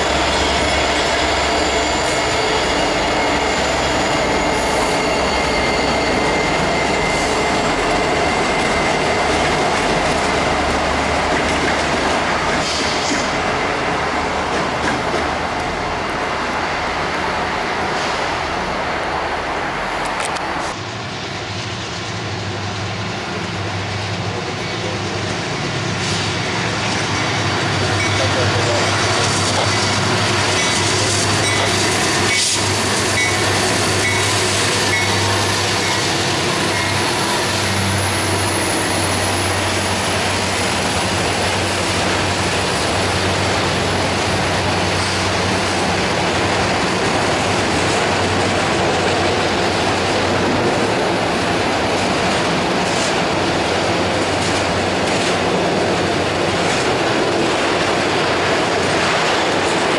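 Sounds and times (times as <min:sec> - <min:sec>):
diesel locomotive engine drone: 0:00.0 - 0:59.9
train wheels rumbling on rails: 0:00.0 - 0:59.9.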